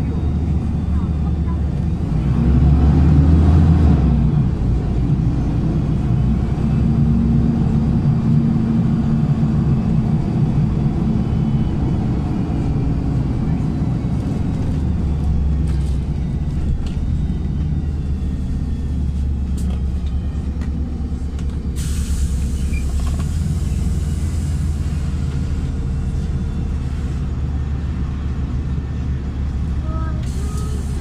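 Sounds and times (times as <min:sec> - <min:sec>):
bus engine drone: 0:00.0 - 0:31.0
road rumble: 0:00.0 - 0:31.0.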